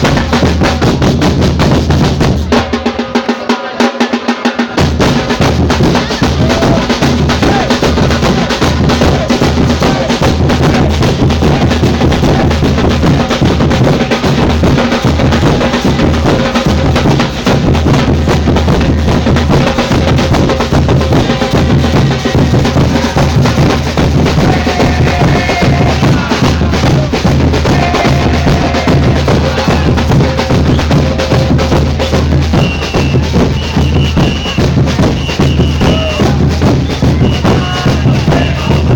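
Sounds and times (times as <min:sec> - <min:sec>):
deep bass drums: 0:00.0 - 0:02.6, 0:04.8 - 0:38.9
samba percussion ensemble: 0:00.0 - 0:38.9
snare drums: 0:00.0 - 0:38.9.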